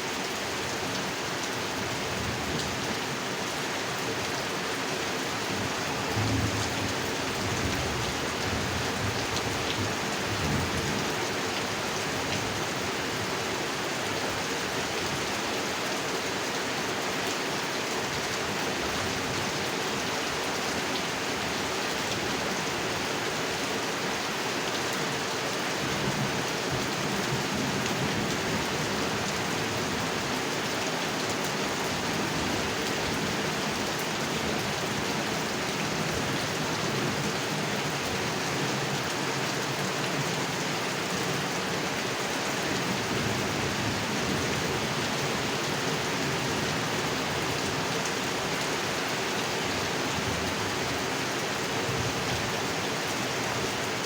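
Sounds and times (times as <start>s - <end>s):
heavy rain falling on water: 0.0s - 54.0s.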